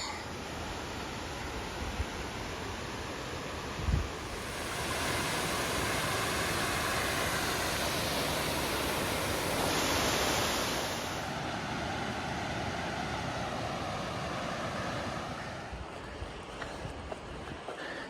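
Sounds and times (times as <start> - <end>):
waterfall rushing: 0.0 - 15.6.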